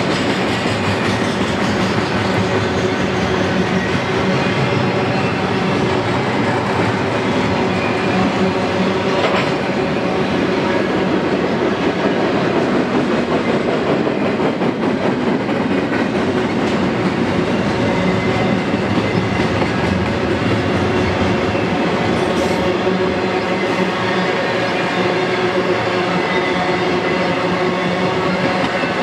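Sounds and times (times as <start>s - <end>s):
steel wheels on rail: 0.0s - 29.0s.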